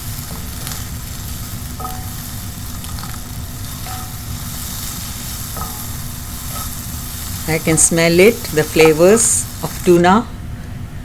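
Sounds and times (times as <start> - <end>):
food sizzling in a pan: 0.0 - 10.2.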